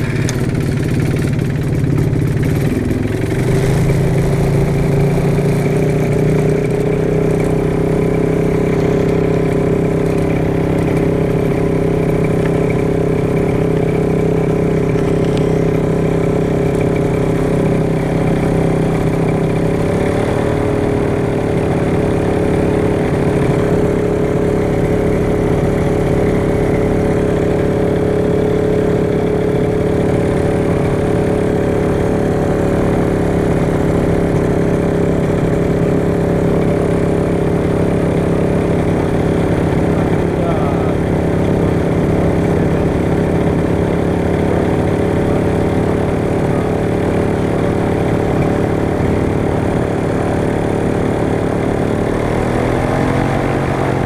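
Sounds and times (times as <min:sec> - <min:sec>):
ultralight engine and propeller: 0:00.0 - 0:54.0.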